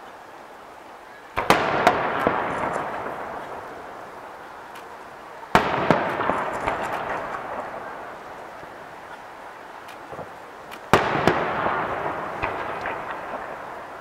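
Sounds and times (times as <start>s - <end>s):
firework crackling: 0.0s - 14.0s
firework shells bursting: 1.4s - 9.2s, 9.8s - 14.0s.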